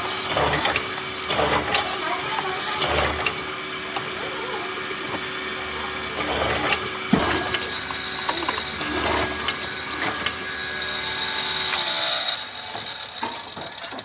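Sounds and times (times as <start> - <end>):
power tool whining on wood: 0.0 - 14.0.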